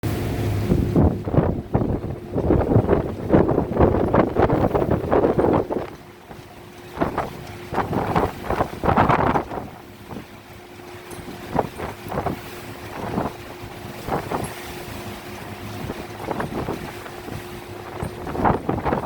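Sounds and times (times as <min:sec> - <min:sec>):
boat engine humming: 0:00.0 - 0:19.0
wind buffeting microphone: 0:00.0 - 0:19.0.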